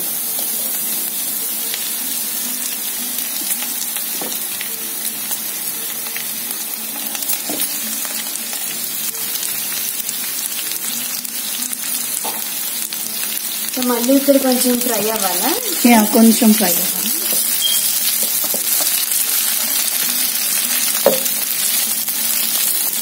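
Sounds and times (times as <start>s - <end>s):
okra sizzling in hot oil: 0.0s - 23.0s.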